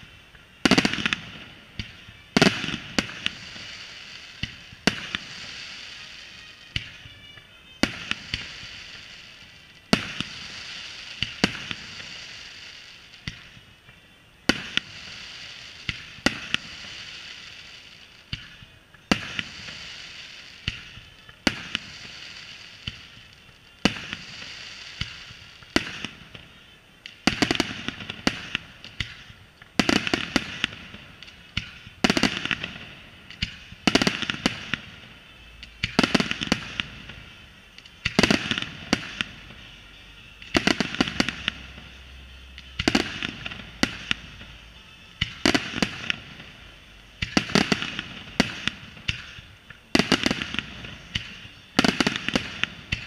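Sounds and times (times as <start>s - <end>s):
firework shell bursts: 0.0s - 7.2s, 7.8s - 13.6s, 14.5s - 53.0s
firework bangs: 0.0s - 53.0s
firework crackling hiss: 0.0s - 53.0s.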